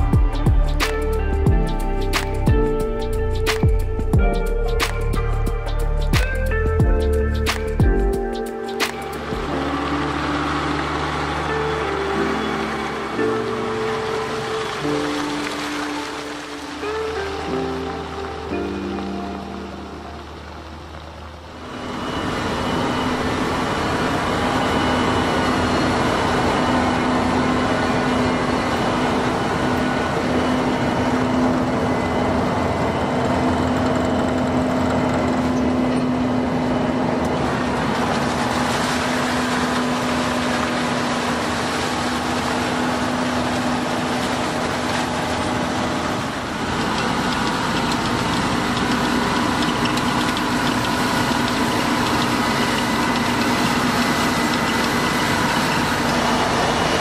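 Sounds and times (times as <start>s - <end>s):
harvester machinery working: 0.0s - 57.0s
tractor running under load: 0.0s - 57.0s.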